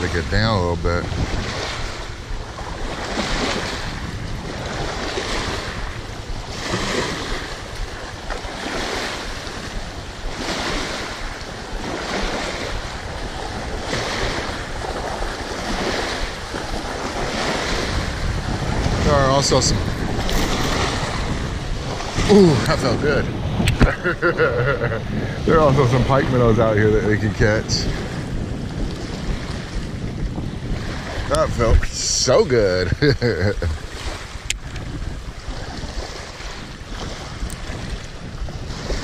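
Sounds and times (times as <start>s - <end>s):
waves splashing on rocky shore: 0.0s - 39.0s
wind buffeting microphone: 0.0s - 39.0s.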